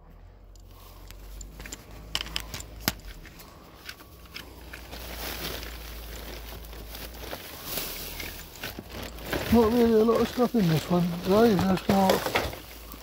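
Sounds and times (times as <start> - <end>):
rubbish rustling in a metal bin: 1.6 - 13.0.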